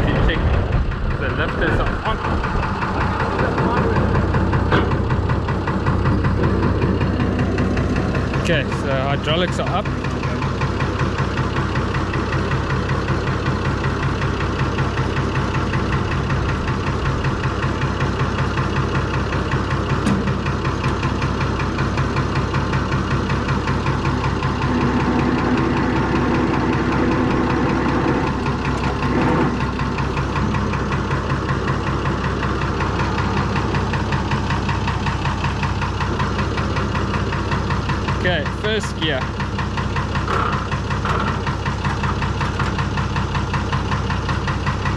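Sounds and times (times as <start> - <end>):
tractor diesel engine idling: 0.0 - 44.9.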